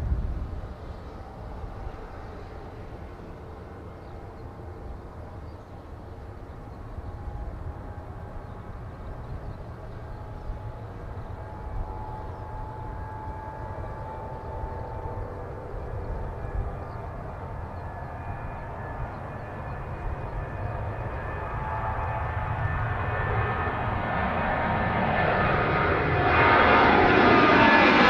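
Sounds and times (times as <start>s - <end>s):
distant jet engines rumbling: 0.0s - 28.0s.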